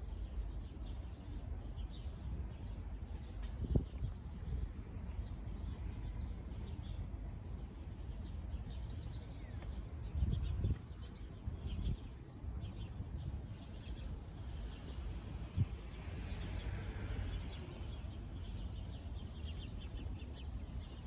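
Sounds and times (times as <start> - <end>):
low city rumble: 0.0 - 21.0
small birds chirping: 0.0 - 21.0.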